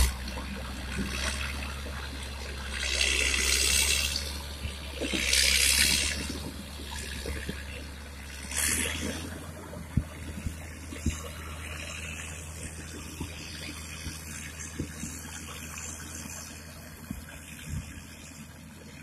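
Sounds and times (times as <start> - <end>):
road roller diesel engine: 0.0 - 19.0.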